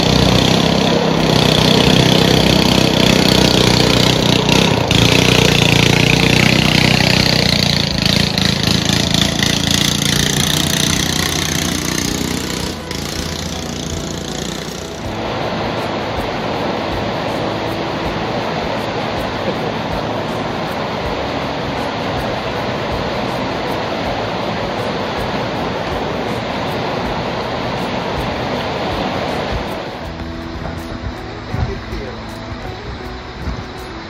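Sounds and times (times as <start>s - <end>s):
river rushing over rocks: 0.0s - 34.0s.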